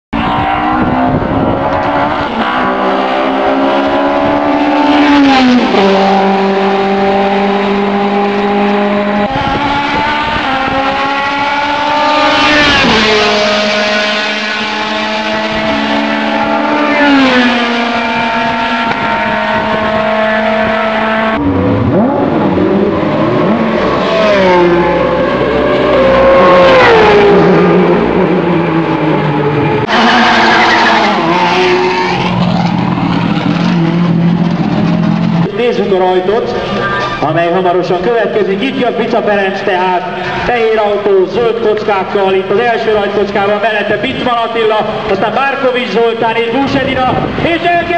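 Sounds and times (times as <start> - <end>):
racing car engines revving: 0.2 - 47.9.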